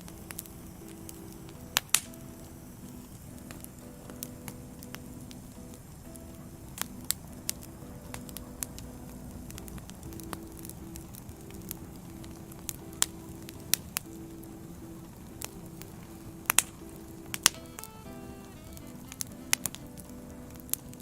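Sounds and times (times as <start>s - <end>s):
firewood crackling: 0.0s - 21.0s
soft held musical notes: 0.0s - 21.0s.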